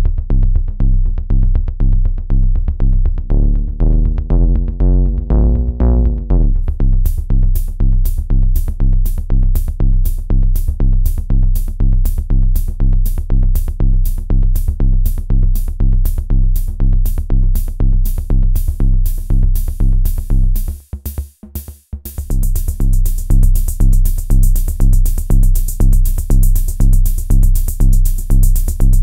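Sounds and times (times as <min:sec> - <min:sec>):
electronic kick drum: 0:00.0 - 0:29.0
ticking hi-hats: 0:00.0 - 0:29.0.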